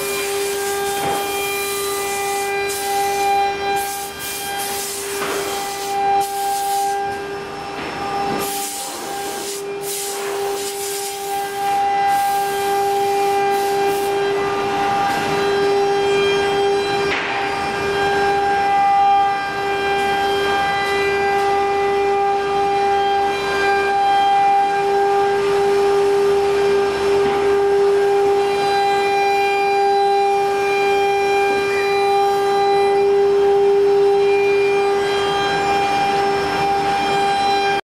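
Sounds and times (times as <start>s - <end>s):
cnc router machine whine: 0.0s - 37.8s.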